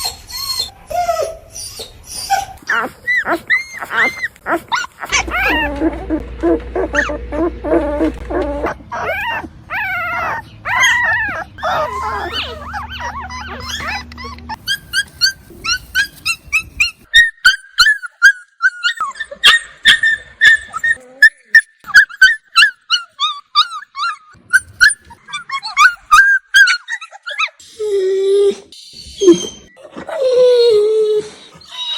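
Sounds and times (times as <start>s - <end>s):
dogs whimpering: 0.0s - 31.9s
dogs whining: 0.0s - 31.9s.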